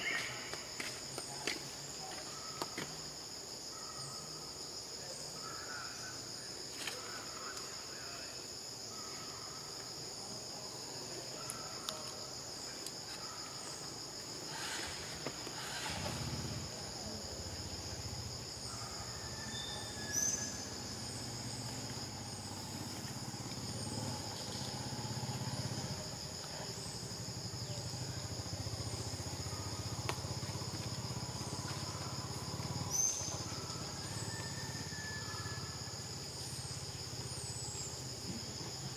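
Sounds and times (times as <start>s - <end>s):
insect chorus buzzing: 0.0s - 38.9s.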